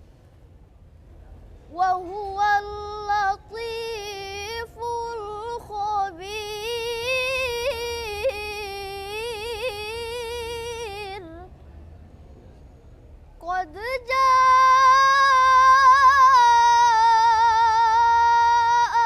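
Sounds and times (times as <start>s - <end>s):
girl reciting melodically: 1.7s - 11.5s, 13.4s - 19.0s.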